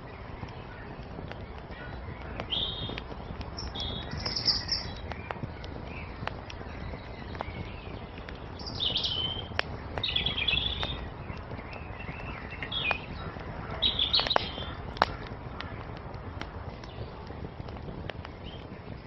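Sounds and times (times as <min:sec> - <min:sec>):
songbirds chirping: 0:00.0 - 0:19.0
wood fire crackling: 0:00.0 - 0:19.0.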